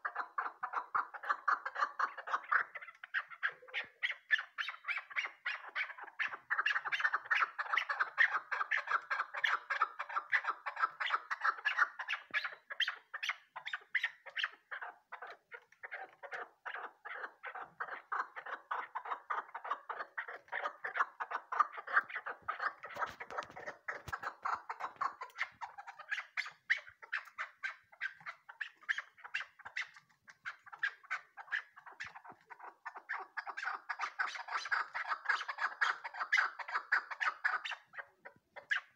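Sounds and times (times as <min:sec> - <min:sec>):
partridge clucking calls: 0:00.0 - 0:38.9.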